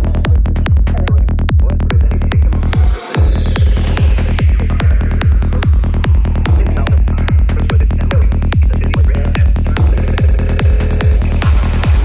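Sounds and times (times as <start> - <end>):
fast trance dance music: 0.0 - 12.0
kick drum: 0.0 - 12.0
rolling bass line: 0.0 - 12.0
noise sweep: 2.1 - 12.0.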